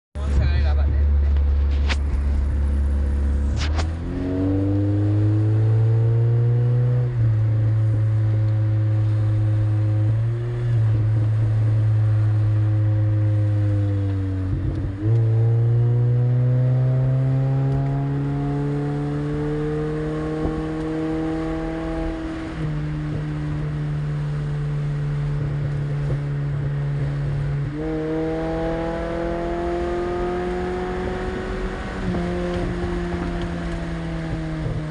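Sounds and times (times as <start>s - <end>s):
wind and road noise: 0.2s - 34.9s
car engine revving through gears: 1.4s - 34.9s.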